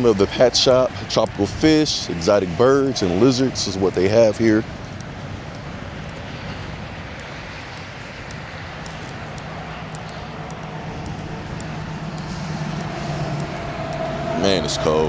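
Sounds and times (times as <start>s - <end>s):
low engine-like hum: 0.0s - 15.0s
outdoor rumble and hiss: 0.0s - 15.0s.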